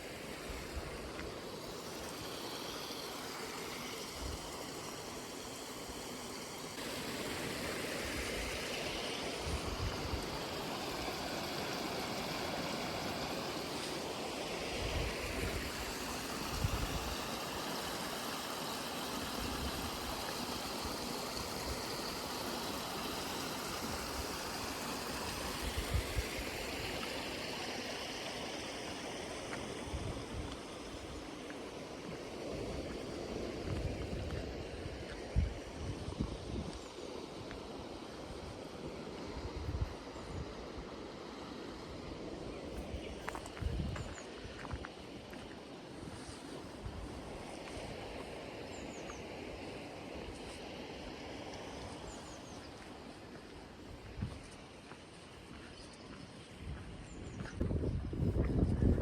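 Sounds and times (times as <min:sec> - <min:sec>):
brook water rushing and gurgling: 0:00.0 - 0:57.0.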